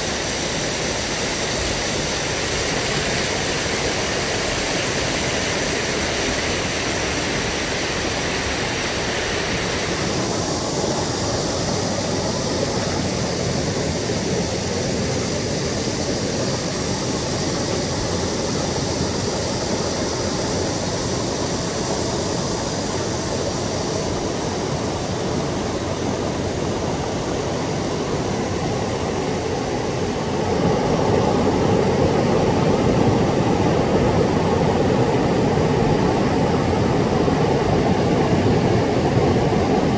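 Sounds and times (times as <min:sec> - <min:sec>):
water pouring over waterfalls: 0:00.0 - 0:39.9.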